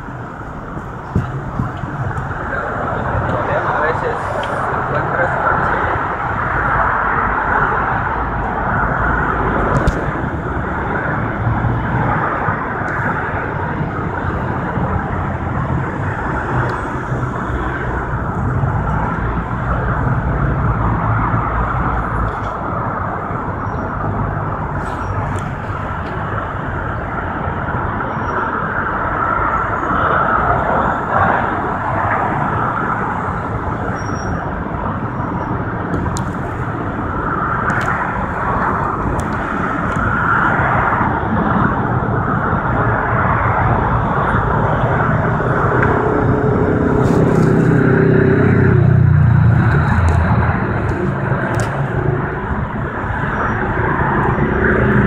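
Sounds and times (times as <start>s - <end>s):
freeway traffic rushing: 0.0s - 55.0s.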